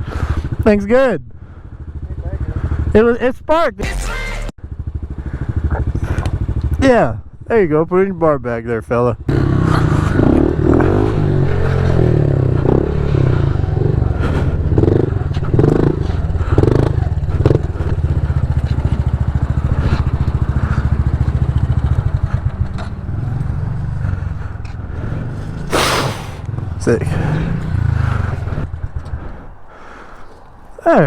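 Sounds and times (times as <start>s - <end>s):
small motorcycle engine chugging: 0.0s - 3.7s, 4.6s - 30.4s.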